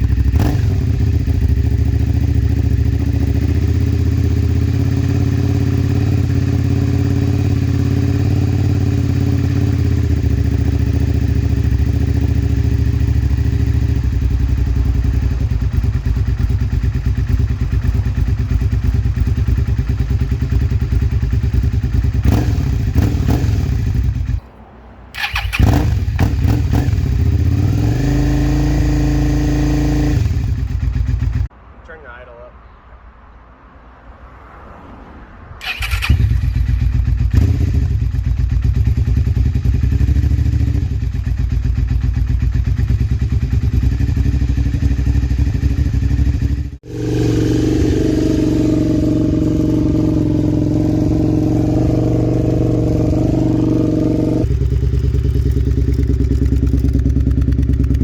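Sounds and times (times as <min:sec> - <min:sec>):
motorcycle engine idling: 0:00.0 - 0:31.5, 0:35.6 - 0:58.0.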